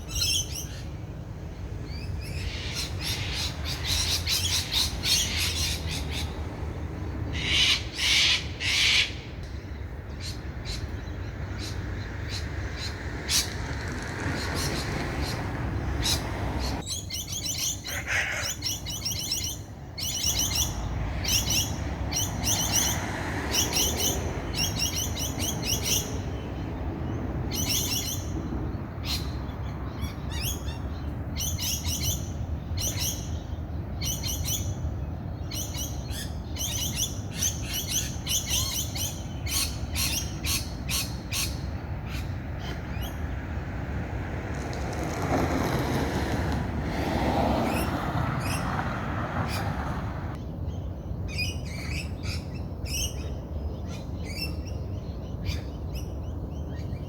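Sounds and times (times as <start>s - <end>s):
songbirds twittering: 0.0s - 43.4s, 47.6s - 57.0s.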